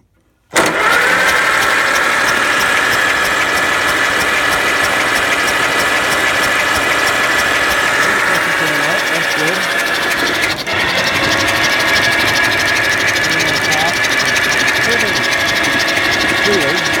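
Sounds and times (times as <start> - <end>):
engine starter cranking: 0.5 - 17.0.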